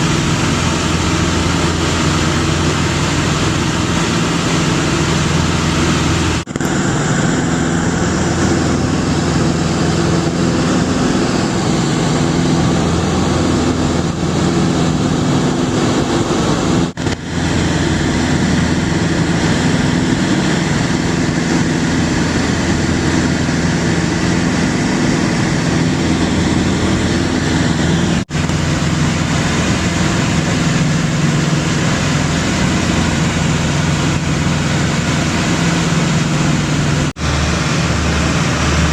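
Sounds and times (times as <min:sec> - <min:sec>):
rushing noise: 0:00.0 - 0:38.9
small airplane engine drone: 0:00.0 - 0:38.9.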